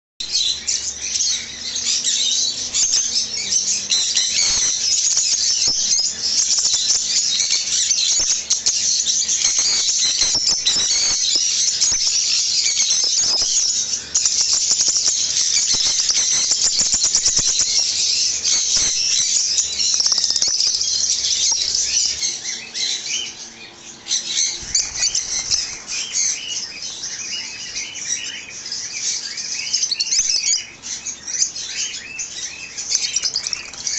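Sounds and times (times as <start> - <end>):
birds chattering and chirping: 0.2 - 33.9.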